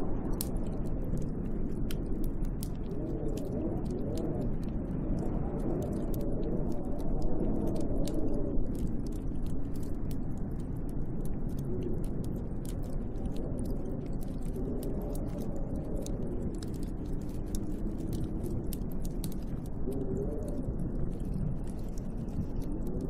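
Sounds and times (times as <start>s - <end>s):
fine crackling ticks: 0.0s - 23.0s
wind rumbling: 0.0s - 23.0s.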